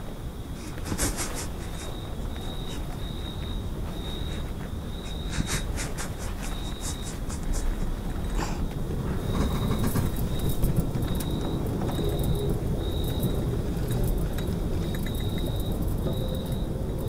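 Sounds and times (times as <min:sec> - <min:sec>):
low rumbling ambience: 0:00.0 - 0:17.0.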